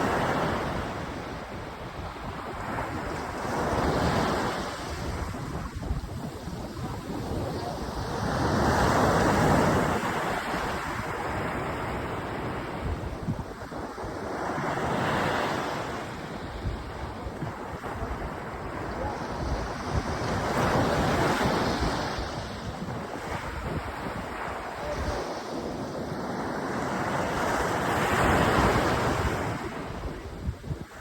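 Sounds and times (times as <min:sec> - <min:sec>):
small waves breaking on beach: 0:00.0 - 0:31.0
wind buffeting microphone: 0:00.0 - 0:31.0.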